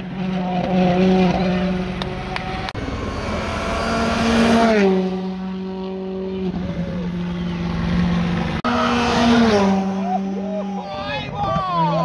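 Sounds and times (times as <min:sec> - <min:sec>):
rally car engines passing by: 0:00.0 - 0:12.0.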